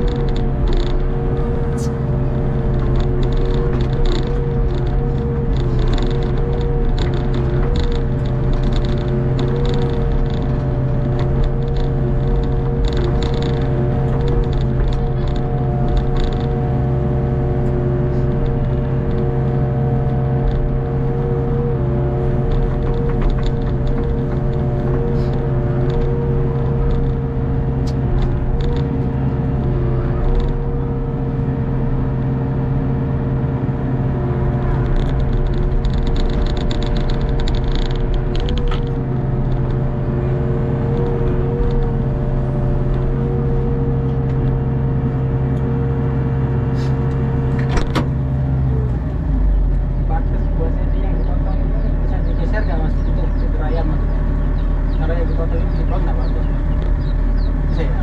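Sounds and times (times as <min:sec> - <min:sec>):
mini excavator engine hum: 0:00.0 - 0:58.0.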